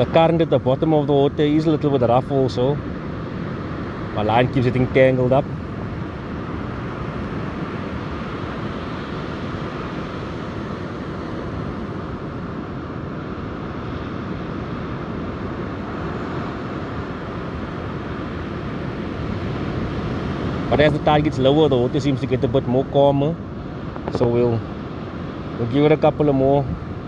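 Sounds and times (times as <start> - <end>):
ocean surf breaking: 0.0 - 27.0
wind on microphone: 2.0 - 27.0.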